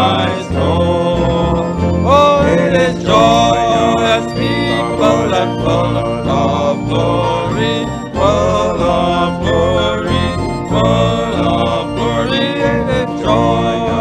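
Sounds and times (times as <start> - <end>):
hymn on piano and organ: 0.0 - 14.0.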